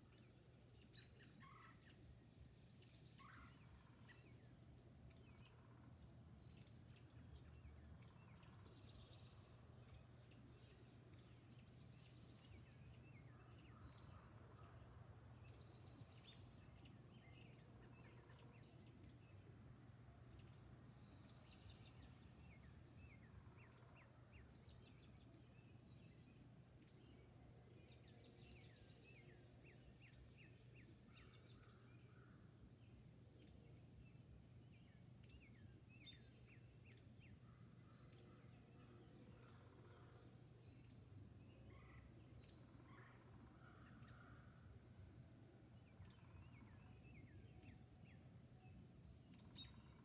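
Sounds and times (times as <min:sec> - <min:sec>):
low steady hum: 0:00.0 - 0:50.0
songbirds chirping and whistling: 0:00.0 - 0:50.0.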